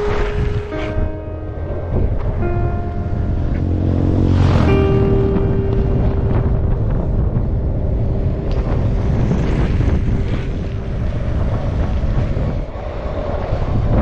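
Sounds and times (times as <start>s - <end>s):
held tone: 0.0s - 11.3s
wind buffeting microphone: 0.0s - 14.0s.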